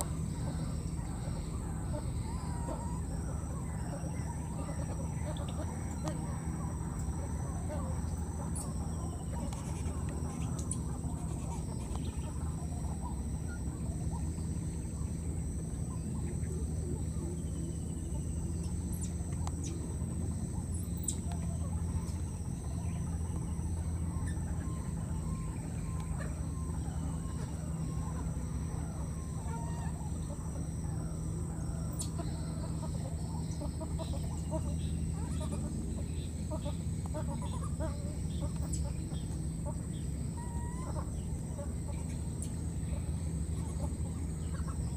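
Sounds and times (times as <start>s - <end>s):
bird calls and clucks: 0.0s - 44.9s
steady low hum: 0.0s - 44.9s.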